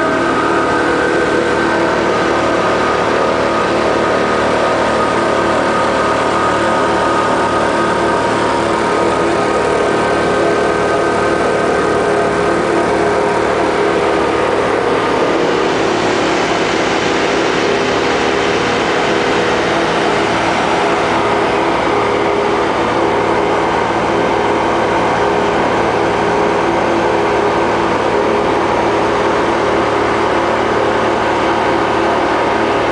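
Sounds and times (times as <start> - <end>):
rig engines and pump humming: 0.0 - 32.9.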